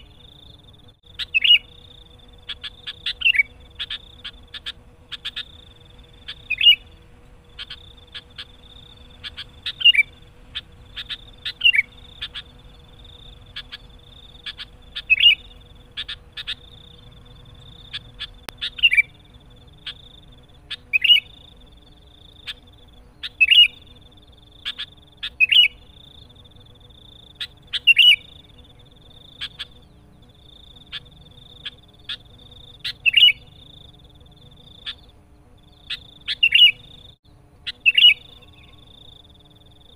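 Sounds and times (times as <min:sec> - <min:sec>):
bulbul calling: 0:00.0 - 0:24.0, 0:24.6 - 0:26.4, 0:27.1 - 0:35.1, 0:35.7 - 0:39.2
steady high buzz: 0:00.0 - 0:39.9.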